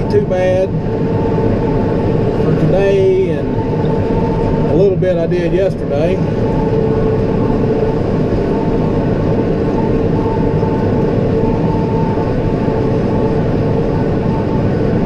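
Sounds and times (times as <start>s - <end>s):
steady high tone: 0.0s - 15.0s
tractor and baler drone: 0.0s - 15.0s.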